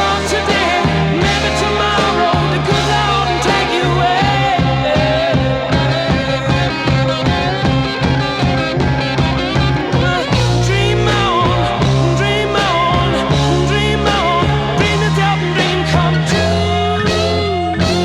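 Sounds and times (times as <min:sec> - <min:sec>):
instrumental rock music: 0:00.0 - 0:18.0.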